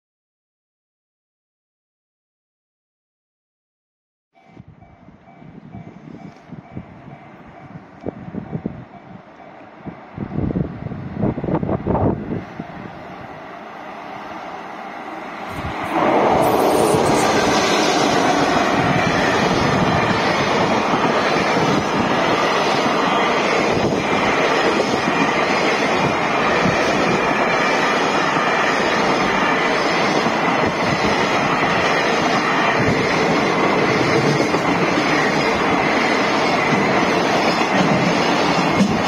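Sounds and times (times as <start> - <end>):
freight train rumbling on rails: 4.4 - 39.0.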